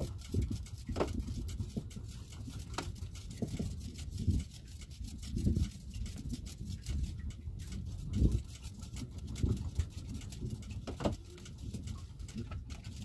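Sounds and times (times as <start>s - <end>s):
waves slapping wooden boat hull: 0.0s - 13.0s.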